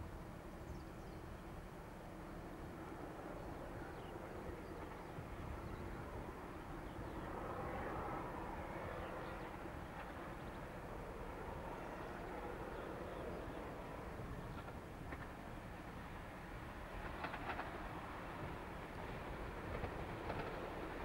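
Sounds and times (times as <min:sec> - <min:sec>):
distant train rumbling: 0:00.0 - 0:21.0.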